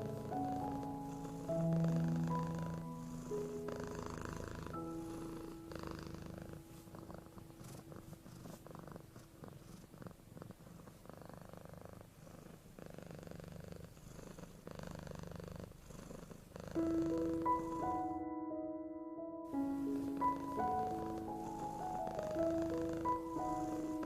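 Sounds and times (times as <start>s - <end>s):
cat purring: 0.0s - 18.2s, 19.6s - 24.0s.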